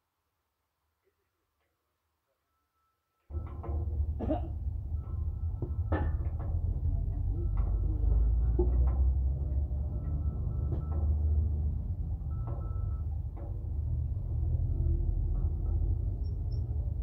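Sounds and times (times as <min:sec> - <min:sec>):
heavy engine idling: 0:03.3 - 0:17.0.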